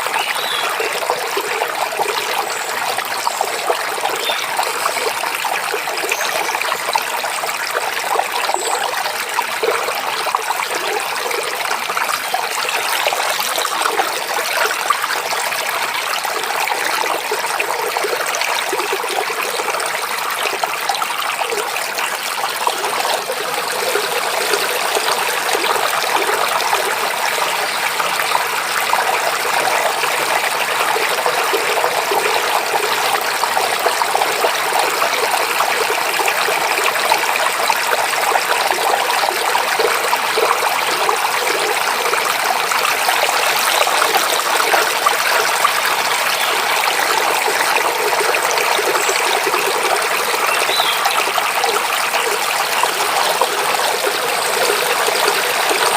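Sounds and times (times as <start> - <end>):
stream babbling: 0.0 - 55.9.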